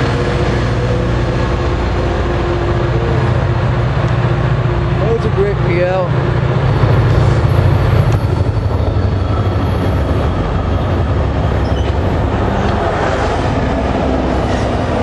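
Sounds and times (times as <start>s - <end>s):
train approaching rumble: 0.0s - 15.0s.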